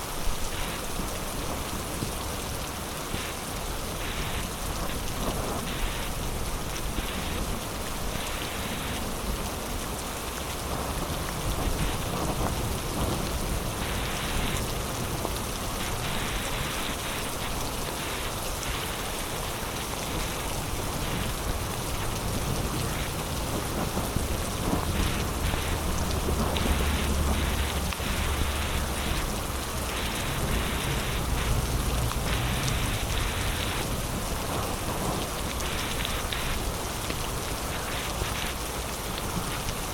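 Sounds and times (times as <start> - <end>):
heavy rain: 0.0 - 39.9
thunder rumbling: 3.9 - 9.7, 10.6 - 39.6.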